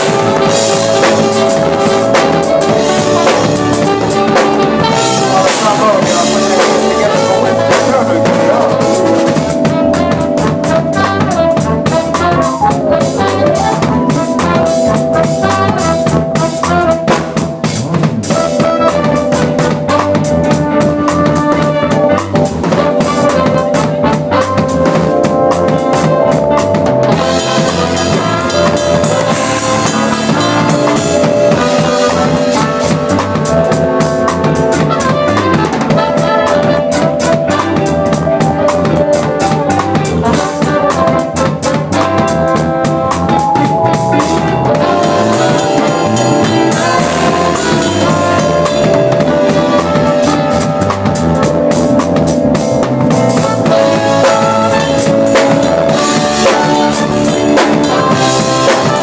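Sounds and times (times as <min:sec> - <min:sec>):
drum kit playing loud: 0:00.0 - 0:59.0
held pitched instrument lines: 0:00.0 - 0:59.0.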